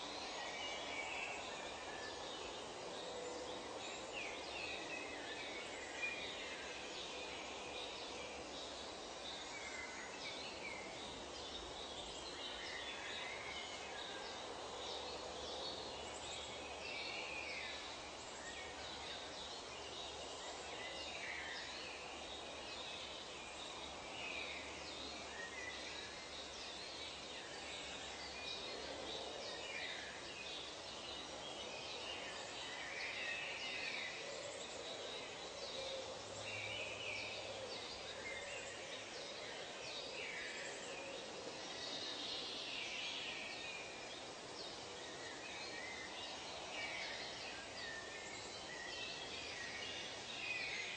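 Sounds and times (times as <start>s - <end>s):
background hiss: 0.0s - 50.9s.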